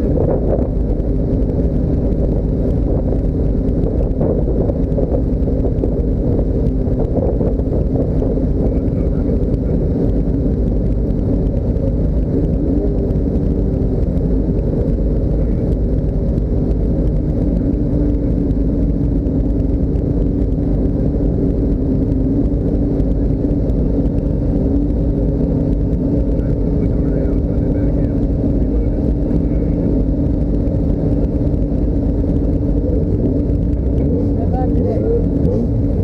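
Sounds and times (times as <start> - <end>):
steady drone: 0.0 - 36.0
vehicle engine and road noise: 0.0 - 36.0.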